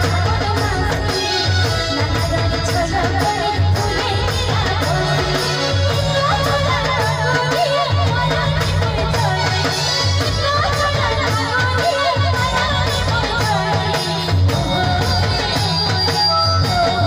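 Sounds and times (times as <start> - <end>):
hand drums beating: 0.0 - 17.0
keyboard: 0.0 - 17.0
woman singing into a microphone: 0.0 - 17.0.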